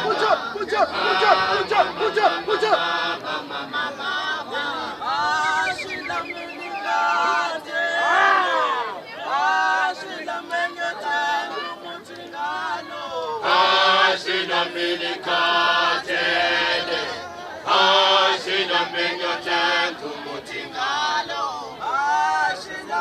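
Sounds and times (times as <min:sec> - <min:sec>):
group of voices chanting: 0:00.0 - 0:23.0.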